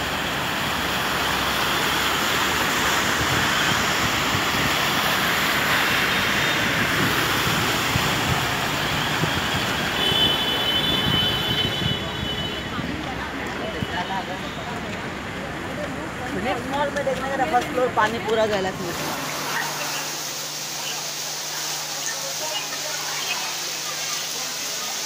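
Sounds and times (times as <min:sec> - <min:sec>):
cars splashing through floodwater: 0:00.0 - 0:25.0
traffic noise: 0:00.0 - 0:25.0.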